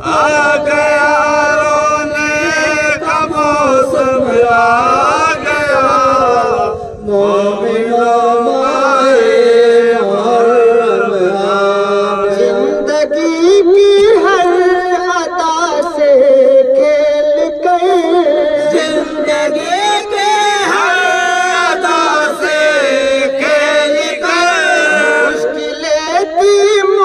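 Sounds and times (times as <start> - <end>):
man chanting a lament: 0.0 - 27.0.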